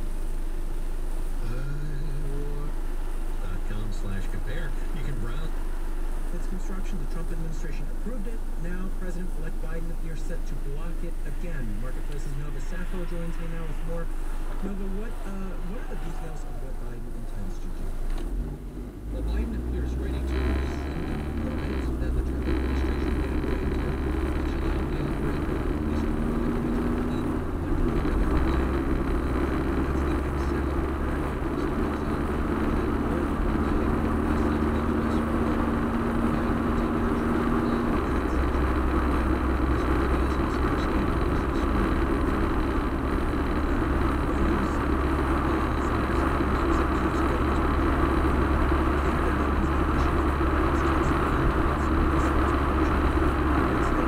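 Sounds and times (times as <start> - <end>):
car road noise: 0.0 - 54.0
faint low hum: 0.0 - 54.0.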